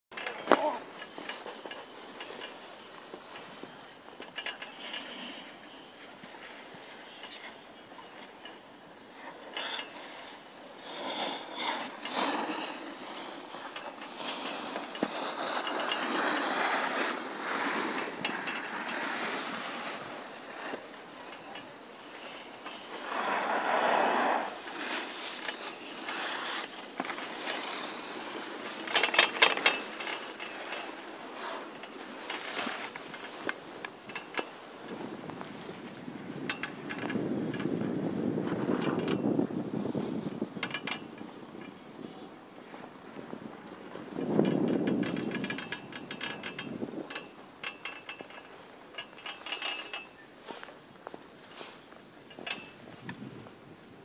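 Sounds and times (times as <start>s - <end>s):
chairlift mechanical rushing: 0.2s - 54.0s.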